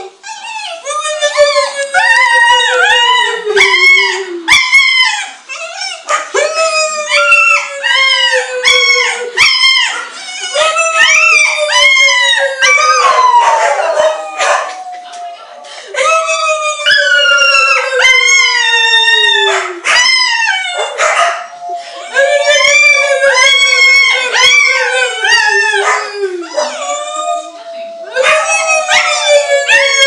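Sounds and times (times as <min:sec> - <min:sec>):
dog howling: 0:00.5 - 0:30.0.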